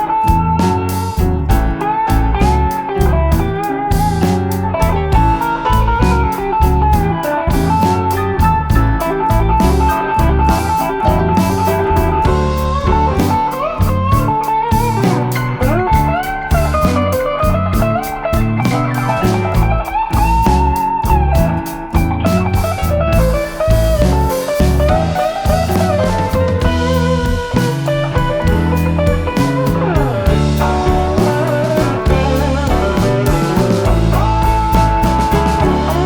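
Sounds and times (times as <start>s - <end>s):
bass and drums: 0.0s - 36.0s
bluesy electric guitar lead: 0.0s - 36.0s.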